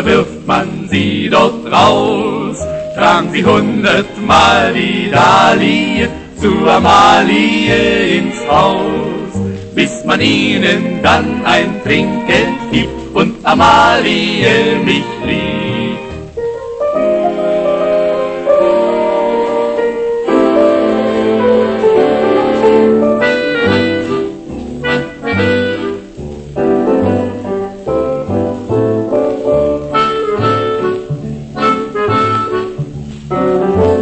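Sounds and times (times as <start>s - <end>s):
dance band foxtrot record: 0.0s - 34.0s.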